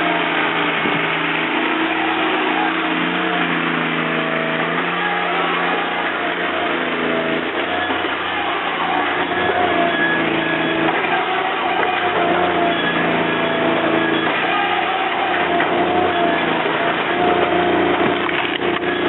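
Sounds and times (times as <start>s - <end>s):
firewood processor engine hum: 0.0s - 19.0s
shifting high hydraulic tones: 0.0s - 19.0s.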